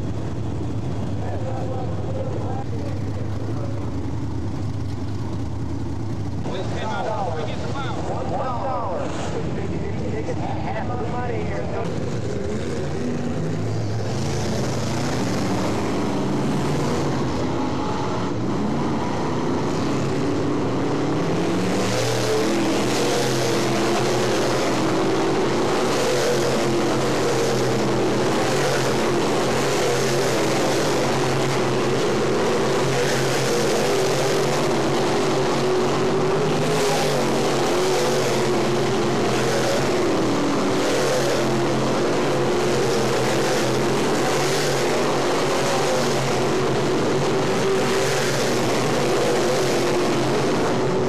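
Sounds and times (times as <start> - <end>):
race car engines droning: 0.0 - 51.0.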